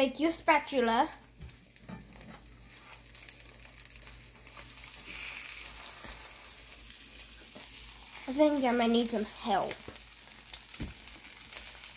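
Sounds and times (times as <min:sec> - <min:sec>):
eggs sizzling in frying pan: 0:00.0 - 0:11.9.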